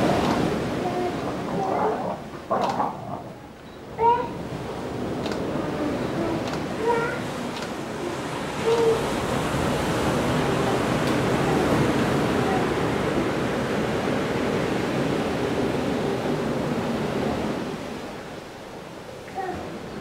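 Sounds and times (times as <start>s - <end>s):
sea surf washing in: 0.0s - 20.0s.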